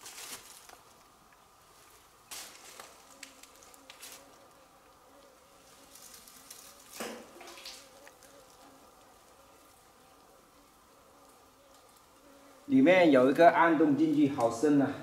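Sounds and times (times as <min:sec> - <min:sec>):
insect buzzing faintly: 0:00.0 - 0:15.0.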